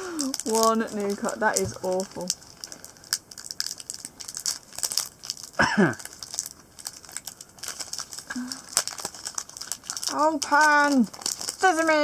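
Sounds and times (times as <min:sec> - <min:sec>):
foil packet crinkling: 0:00.0 - 0:12.0.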